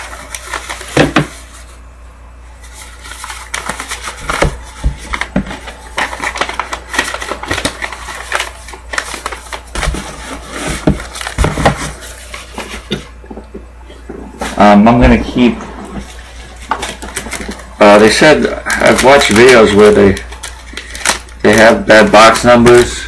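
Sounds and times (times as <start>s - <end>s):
cards and envelopes rustling: 0.0s - 1.7s, 2.6s - 13.3s, 14.4s - 23.0s.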